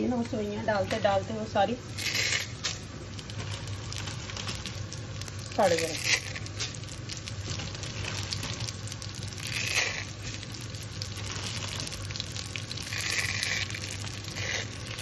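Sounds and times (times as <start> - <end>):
noodles sizzling in hot fat: 0.0 - 15.0.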